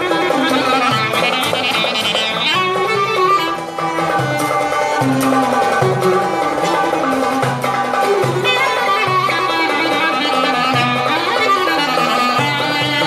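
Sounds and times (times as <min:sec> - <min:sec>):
clarinet: 0:00.0 - 0:13.0
oud plucking: 0:00.0 - 0:13.0
violin: 0:00.0 - 0:13.0.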